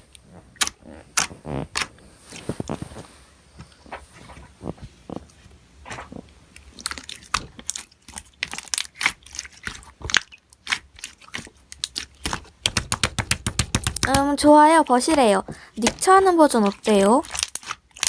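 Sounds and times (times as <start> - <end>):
slime squeezed crackling: 0.1 - 2.9, 6.0 - 18.0.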